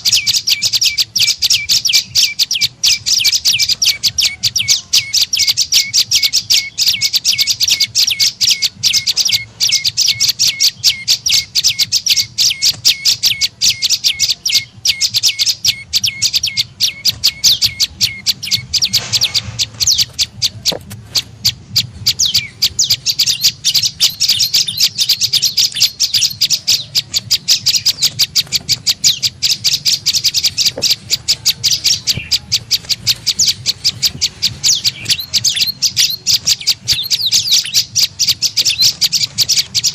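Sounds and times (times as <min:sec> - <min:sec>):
high sharp bird chirps: 0:00.0 - 0:39.9.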